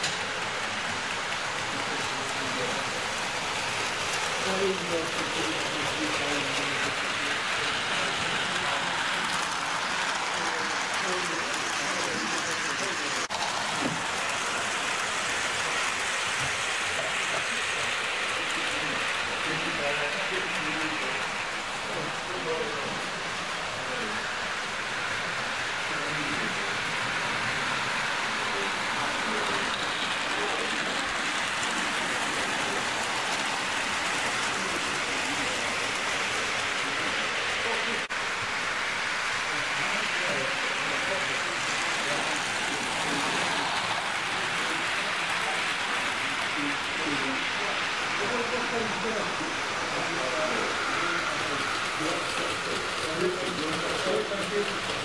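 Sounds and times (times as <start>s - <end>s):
model train wheels on metal rails: 0.0s - 55.0s.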